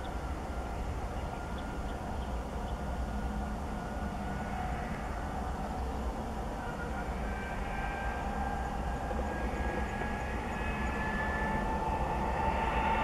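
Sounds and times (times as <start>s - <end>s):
diesel locomotive engine rumble: 0.0s - 13.0s
high turbocharger whine: 0.0s - 13.0s.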